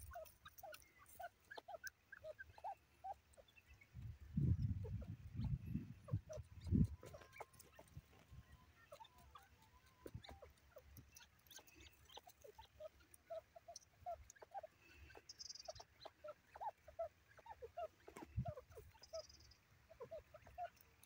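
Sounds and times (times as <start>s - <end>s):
birds giving short calls: 0.0s - 21.0s.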